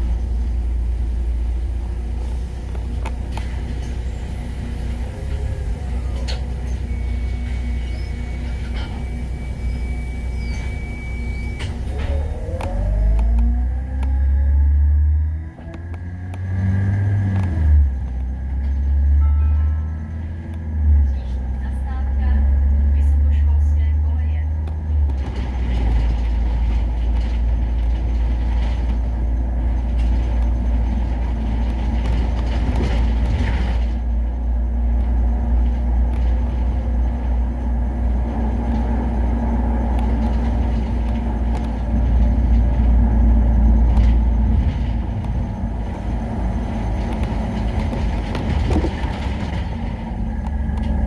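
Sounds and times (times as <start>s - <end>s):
bus engine and road noise: 0.0s - 51.0s.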